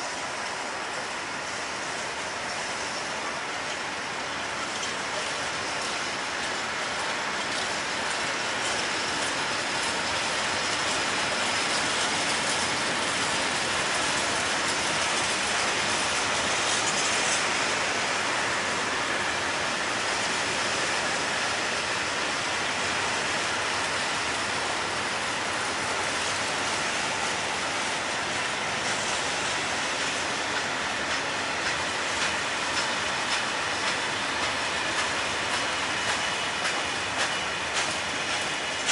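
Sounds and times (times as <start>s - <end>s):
steel wheels rattling on rails: 0.0s - 38.9s.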